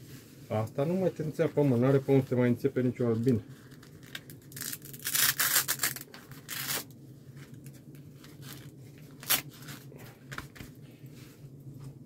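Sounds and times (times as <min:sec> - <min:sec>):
fabric rustling and crinkling: 0:00.0 - 0:12.0.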